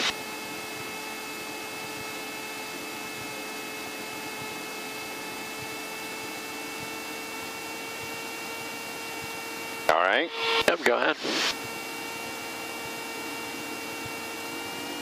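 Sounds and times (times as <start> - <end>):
airplane engine and propeller drone: 0.0 - 15.0.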